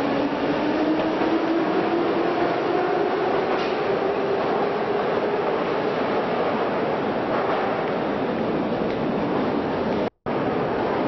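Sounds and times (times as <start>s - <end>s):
metro train rumbling: 0.0s - 11.0s.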